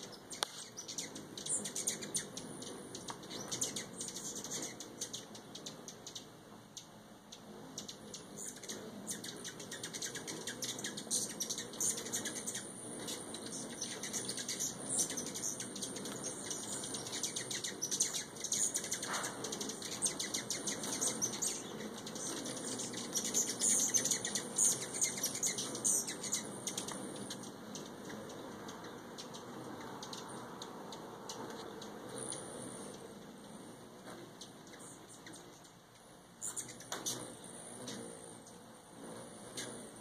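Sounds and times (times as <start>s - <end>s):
hummingbird chips and squeaks: 0.0s - 40.0s
hummingbird wings humming: 0.0s - 40.0s.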